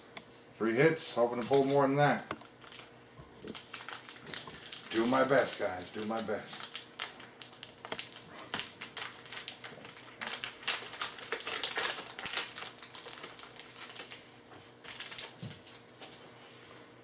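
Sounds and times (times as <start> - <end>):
cards and wrapper crinkling: 1.1 - 15.8.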